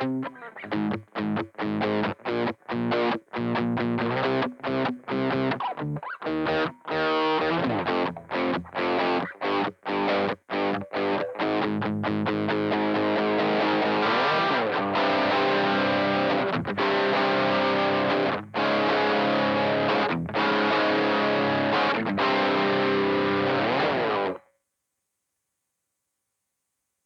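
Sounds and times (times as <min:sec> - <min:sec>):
distorted electric guitar chords: 0:00.0 - 0:24.4.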